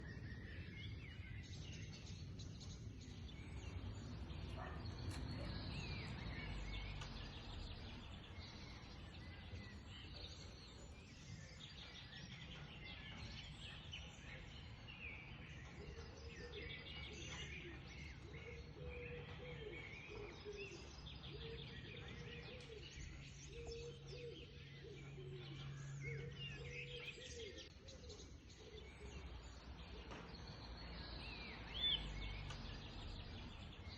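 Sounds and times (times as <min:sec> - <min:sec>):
outdoor background noise: 0:00.0 - 0:33.9
small birds chirping: 0:00.0 - 0:33.9.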